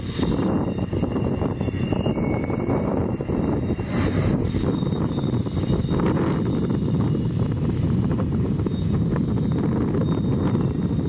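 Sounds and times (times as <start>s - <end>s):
faint high squeal: 0.0s - 11.0s
train wheels rumbling on rails: 0.0s - 11.0s.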